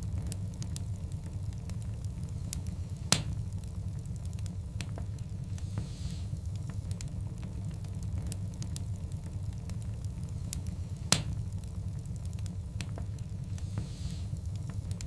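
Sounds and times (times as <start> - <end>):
fire pops and snaps: 0.0 - 15.0
low rumble of flames: 0.0 - 15.0
wood fire crackling: 0.0 - 15.0.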